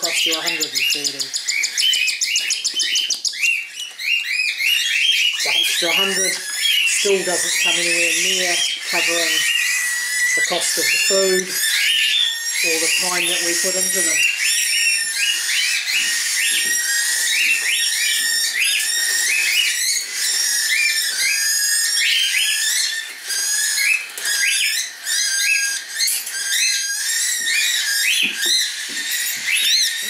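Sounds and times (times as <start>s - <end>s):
cockatiels chirping and whistling: 0.0s - 30.0s.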